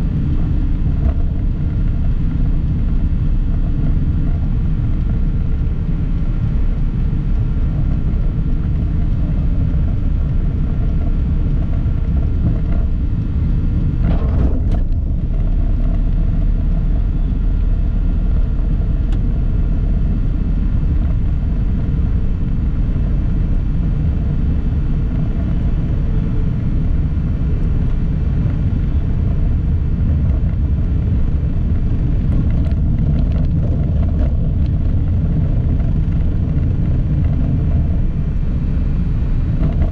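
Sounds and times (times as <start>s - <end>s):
vehicle driving rumble: 0.0s - 39.9s.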